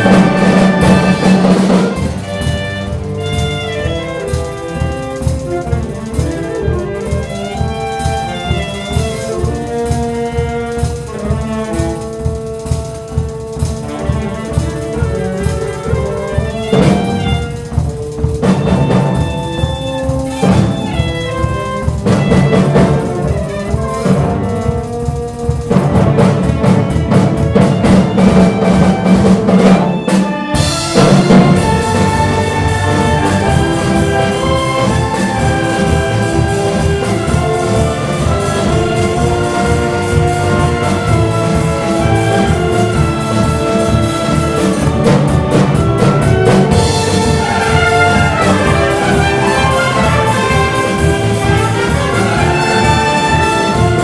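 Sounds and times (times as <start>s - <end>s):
concert band playing: 0.0s - 54.0s
trumpets and trombones: 0.0s - 54.0s.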